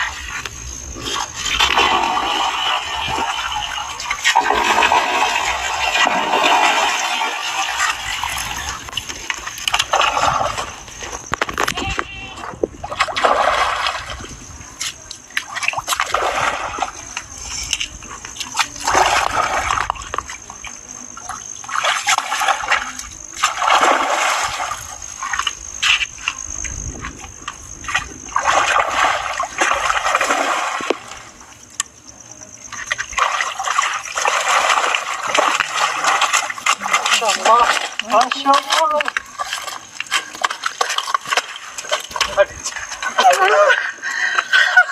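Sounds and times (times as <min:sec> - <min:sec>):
water splashing: 0:00.0 - 0:44.9.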